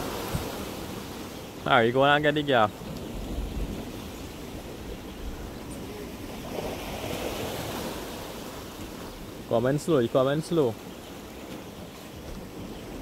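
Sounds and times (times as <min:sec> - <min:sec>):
wind rumbling on microphone: 0:00.0 - 0:09.6, 0:10.8 - 0:13.0
sea surf on rocky shore: 0:00.0 - 0:13.0.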